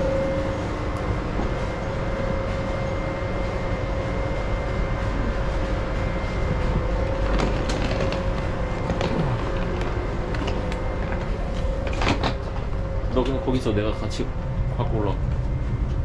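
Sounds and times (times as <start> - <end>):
constant whining tone: 0.0 - 16.0
train rumble and hiss: 0.0 - 16.0.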